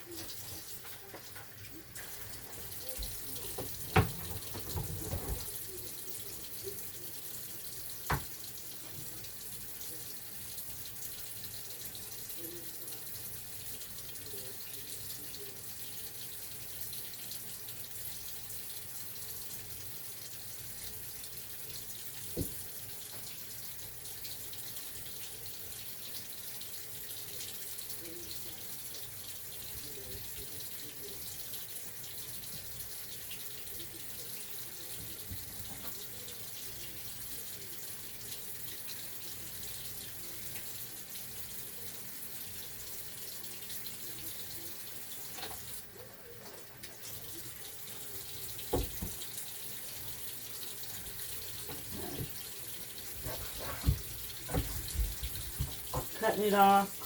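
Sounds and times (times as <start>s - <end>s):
faucet running: 0.0s - 57.0s.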